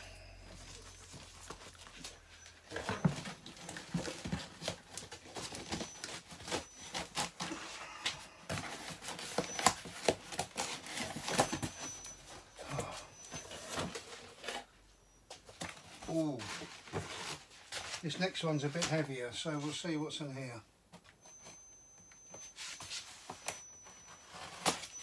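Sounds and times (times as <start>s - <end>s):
cardboard rustling and scraping: 0.4s - 14.8s, 15.4s - 19.1s, 21.0s - 25.0s.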